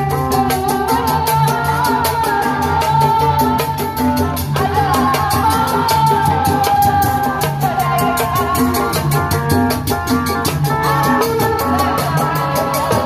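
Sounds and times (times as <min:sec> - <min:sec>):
band music over loudspeakers: 0:00.0 - 0:13.0
steady drum beat: 0:00.0 - 0:13.0.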